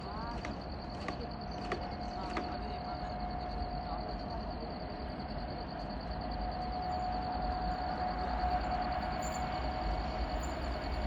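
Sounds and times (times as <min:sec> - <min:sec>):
faint steady tone: 0:00.0 - 0:11.0
train rumbling on track: 0:00.0 - 0:11.0.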